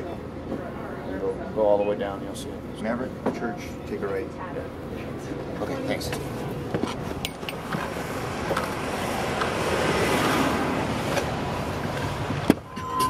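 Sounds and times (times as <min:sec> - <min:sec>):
engine and road noise: 0:00.0 - 0:13.0.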